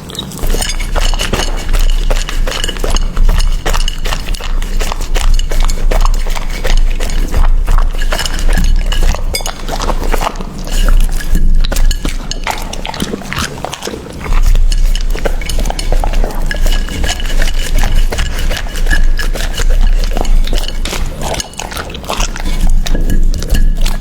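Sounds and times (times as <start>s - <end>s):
clinks against bowl: 0.0s - 24.0s
dog crunching and chewing: 0.0s - 24.0s.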